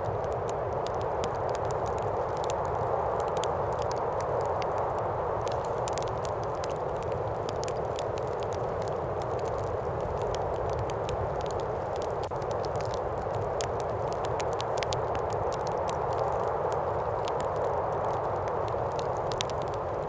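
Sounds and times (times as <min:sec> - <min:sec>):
wind: 0:00.0 - 0:20.0
wood fire crackling and popping: 0:00.0 - 0:20.0.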